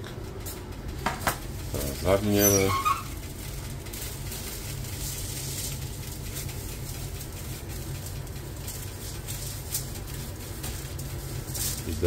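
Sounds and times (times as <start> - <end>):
steady low hum: 0.0 - 12.0
aluminium foil crinkling: 0.4 - 12.0
plastic gloves rustling: 1.1 - 12.0.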